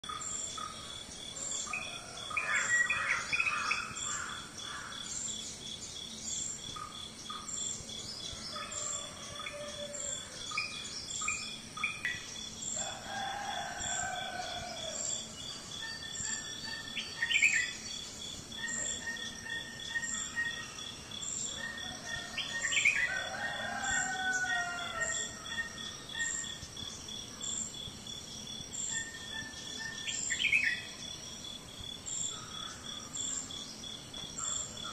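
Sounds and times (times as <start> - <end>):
birds calling and chirping: 0.0 - 27.8, 28.6 - 31.3, 32.0 - 34.9
insect pulsing chirr: 0.0 - 34.9.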